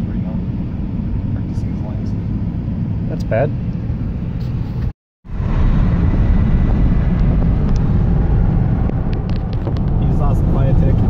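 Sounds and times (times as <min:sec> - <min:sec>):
road and engine noise in car: 0:00.0 - 0:11.0.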